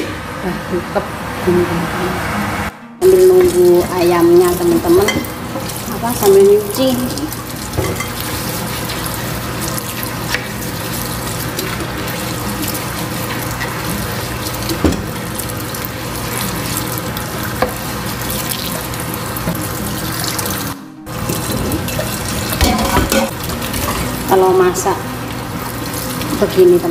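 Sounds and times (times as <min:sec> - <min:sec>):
tap water running into sink: 0:03.0 - 0:26.9.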